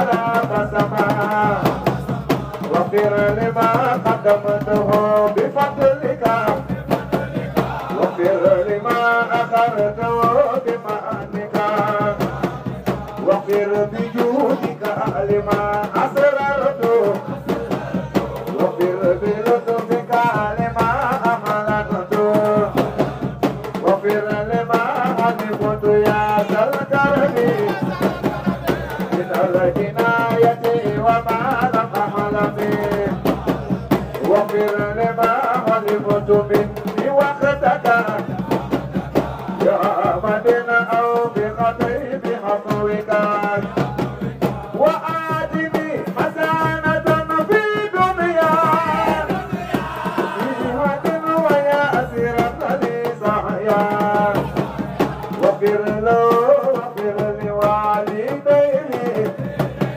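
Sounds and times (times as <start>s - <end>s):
hand drum rhythm: 0.0s - 59.9s
voices singing devotional chant: 0.0s - 59.9s.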